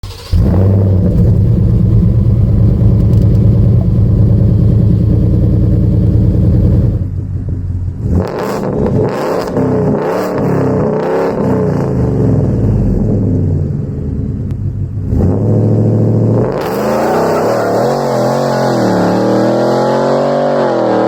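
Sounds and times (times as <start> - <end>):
engine running and revving: 0.0 - 13.4, 14.5 - 21.0.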